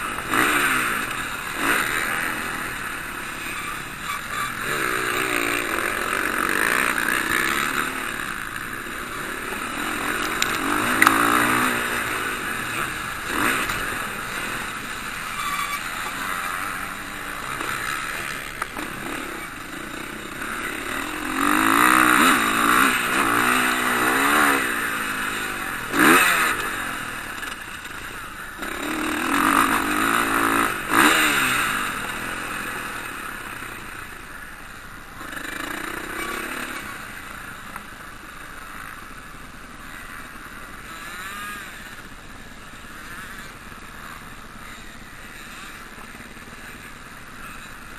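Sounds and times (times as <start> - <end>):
motocross bike engines revving: 0.0 - 47.9.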